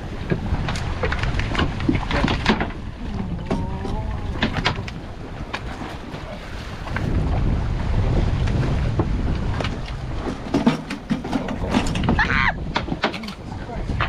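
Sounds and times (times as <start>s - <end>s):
wind and water rushing: 0.0s - 14.0s.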